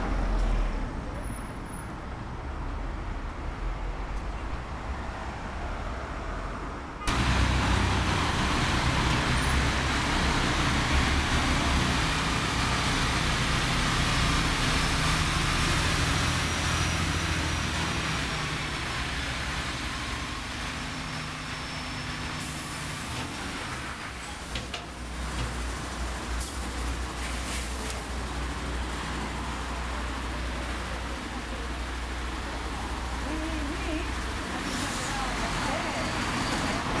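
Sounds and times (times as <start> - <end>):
low traffic rumble: 0.0 - 37.0.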